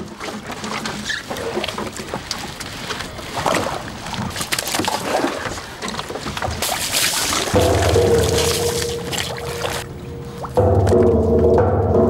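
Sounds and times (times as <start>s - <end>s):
water splashing and slopping: 0.0s - 12.0s.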